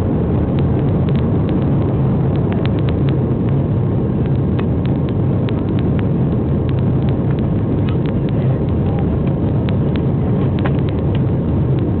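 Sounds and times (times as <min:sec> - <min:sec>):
jet engines roaring: 0:00.0 - 0:12.0
sharp clicks and rattles: 0:00.1 - 0:12.0.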